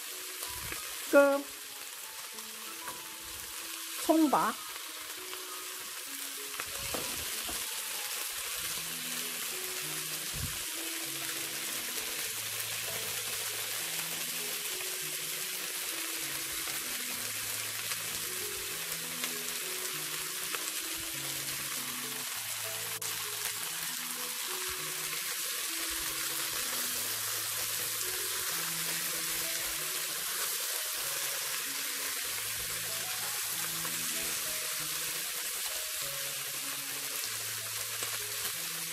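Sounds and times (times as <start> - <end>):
chicken sizzling in hot oil: 0.0 - 38.9
soft background music: 0.0 - 38.9.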